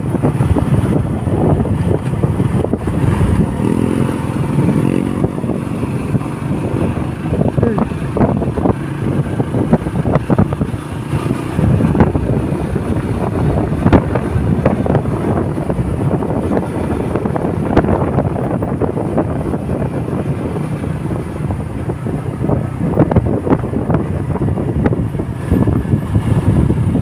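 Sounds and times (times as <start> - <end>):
motorcycle engine running: 0.0 - 27.0
wind buffeting microphone: 0.0 - 27.0.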